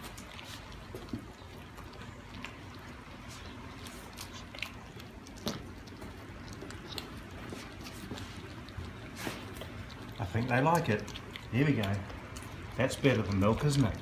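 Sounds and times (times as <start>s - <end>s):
lion cubs licking and chewing meat: 0.0s - 14.0s.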